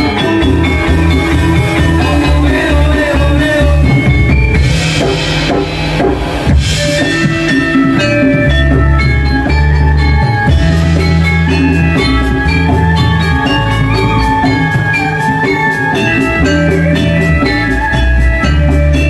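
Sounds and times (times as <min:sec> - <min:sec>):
deep held bass notes: 0:00.0 - 0:19.0
drums: 0:00.0 - 0:19.0
metallophones playing fast melody: 0:00.0 - 0:19.0.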